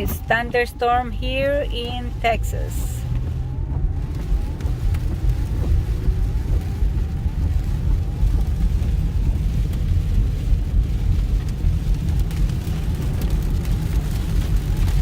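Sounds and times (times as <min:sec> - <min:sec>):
car road and engine rumble: 0:00.0 - 0:15.0
rain on a car: 0:00.0 - 0:15.0.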